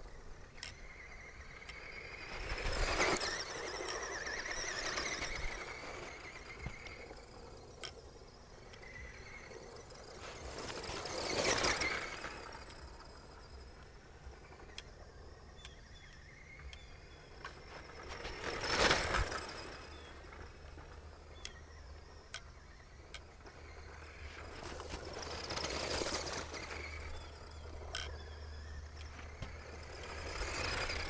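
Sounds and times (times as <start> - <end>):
rc buggy driving on dirt: 0.0 - 31.0.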